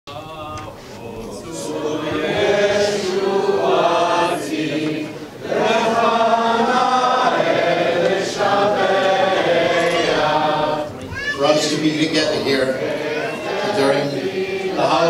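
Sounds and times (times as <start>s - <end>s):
choir singing long notes: 0.1s - 15.0s.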